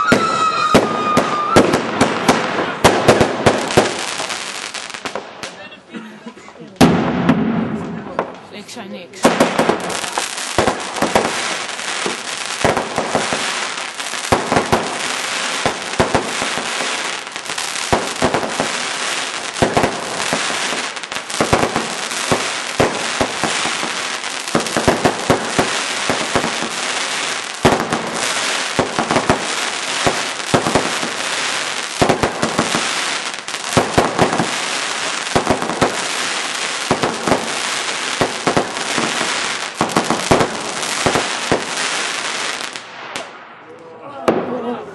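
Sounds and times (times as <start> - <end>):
fireworks crackling and banging: 0.0 - 44.9.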